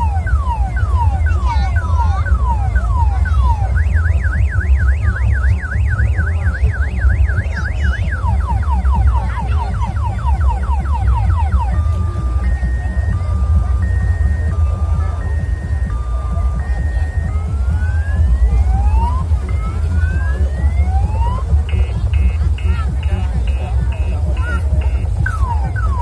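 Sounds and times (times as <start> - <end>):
electronic siren tones: 0.0 - 26.0
steady low rumble: 0.0 - 26.0.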